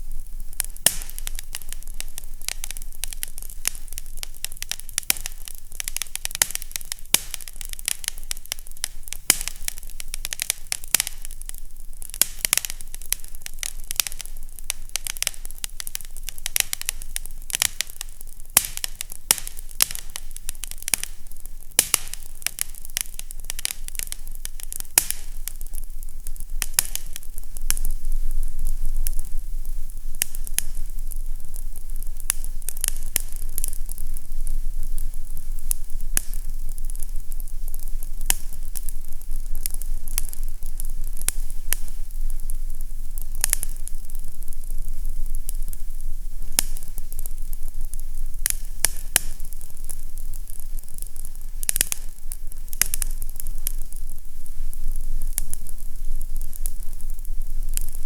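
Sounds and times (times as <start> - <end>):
faint low hum: 0.0 - 58.0
fireplace crackling: 0.0 - 58.0.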